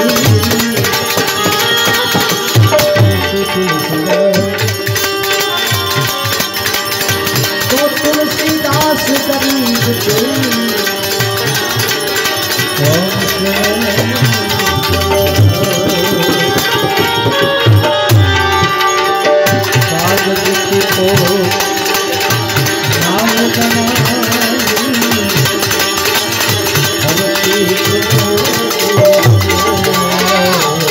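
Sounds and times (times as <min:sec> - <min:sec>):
hand cymbals: 0:00.0 - 0:30.9
tabla playing: 0:00.0 - 0:30.9.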